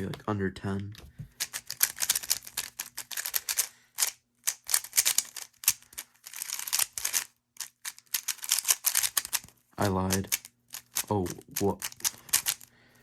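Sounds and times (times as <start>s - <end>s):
puzzle cube plastic clicks: 0.8s - 12.7s.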